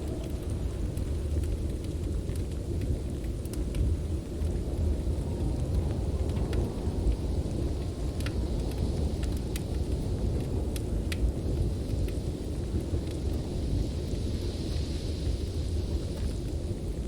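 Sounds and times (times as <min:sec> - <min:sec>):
storm wind rumbling: 0:00.0 - 0:17.0
wood fire crackling: 0:00.0 - 0:17.0.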